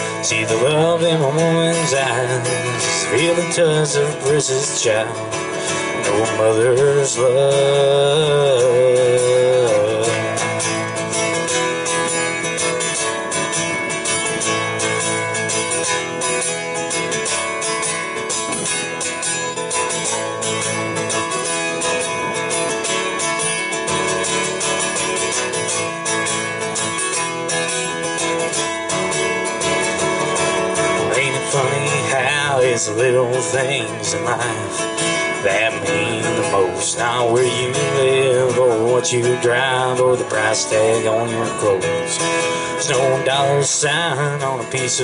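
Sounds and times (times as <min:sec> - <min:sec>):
acoustic guitar strumming: 0:00.0 - 0:45.0.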